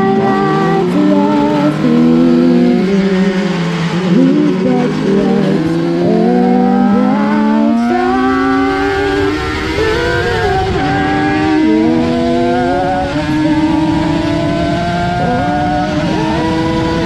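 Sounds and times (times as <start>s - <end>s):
racing motorcycle engine accelerating: 0.0s - 17.0s.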